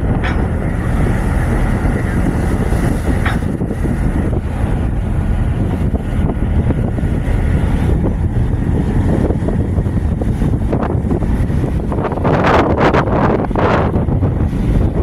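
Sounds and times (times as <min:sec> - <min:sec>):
boat engines running: 0:00.0 - 0:15.0
water rushing along hull: 0:00.0 - 0:15.0
wind buffeting microphone: 0:00.0 - 0:15.0.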